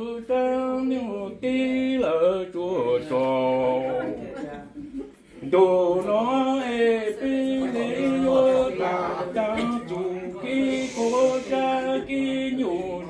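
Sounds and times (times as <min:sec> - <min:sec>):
man singing unaccompanied: 0:00.0 - 0:04.2, 0:05.4 - 0:13.0.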